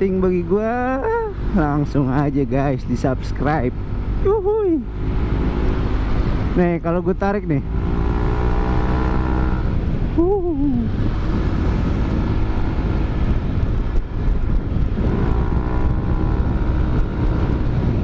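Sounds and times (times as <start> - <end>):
heavy wind: 0.0 - 18.0
road rumble: 0.0 - 18.0.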